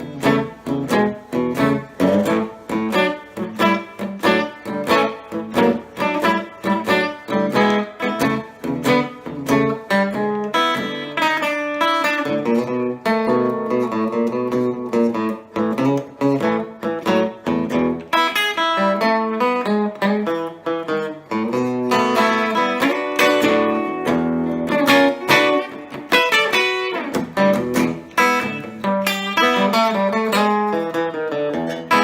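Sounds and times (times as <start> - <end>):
electric guitar chords and notes: 0.0 - 32.0.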